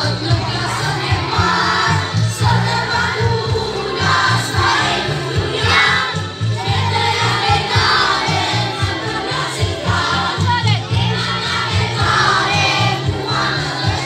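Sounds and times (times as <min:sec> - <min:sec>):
backing music with pulsing beat: 0:00.0 - 0:14.0
children singing together: 0:00.0 - 0:14.0.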